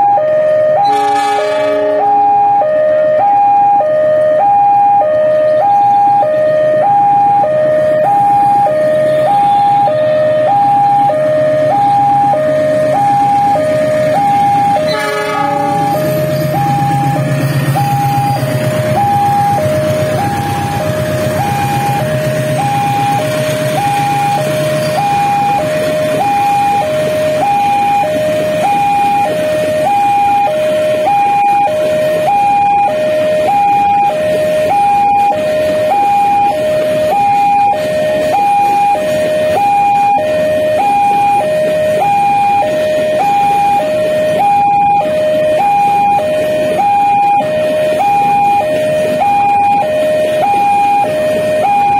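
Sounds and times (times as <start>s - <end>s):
level-crossing alarm two-tone: 0.0s - 51.9s
locomotive rumble: 0.0s - 51.9s.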